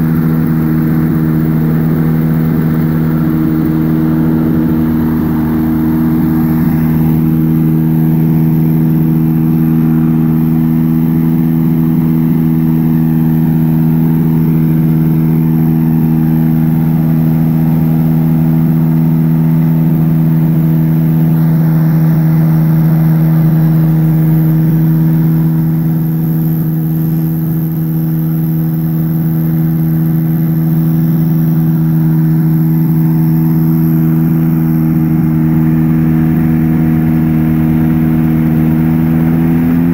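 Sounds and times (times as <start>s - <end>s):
light aircraft engine idling: 0.0s - 39.9s.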